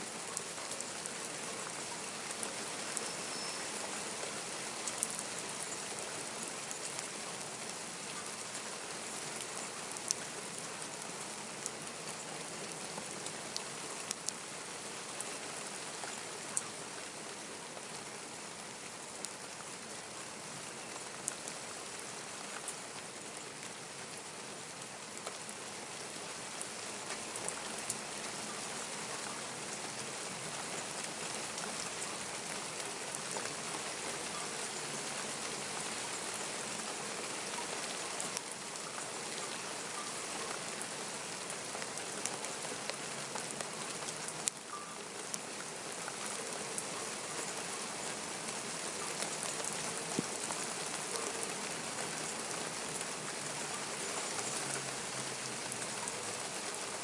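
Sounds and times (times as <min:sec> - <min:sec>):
rain hissing on ground: 0:00.0 - 0:57.0.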